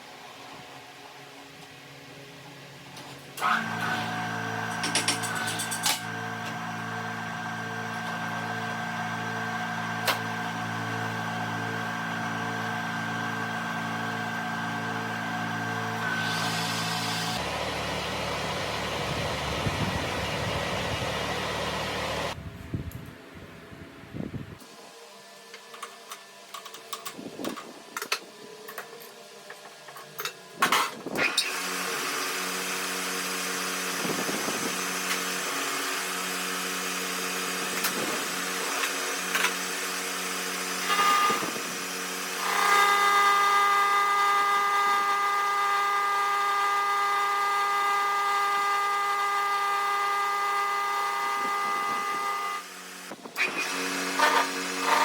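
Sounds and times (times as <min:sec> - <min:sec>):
metalworking machine humming: 0:00.1 - 0:22.4, 0:24.6 - 0:55.0.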